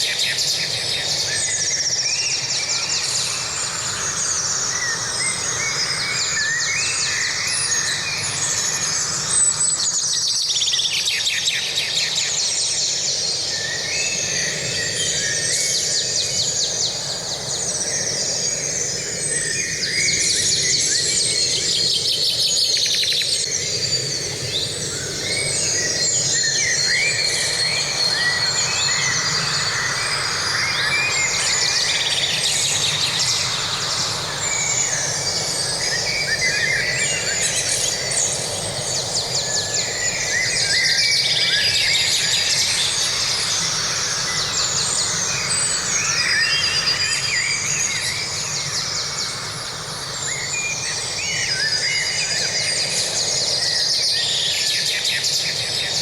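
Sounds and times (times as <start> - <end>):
songbirds singing and calling: 0.0 - 56.0.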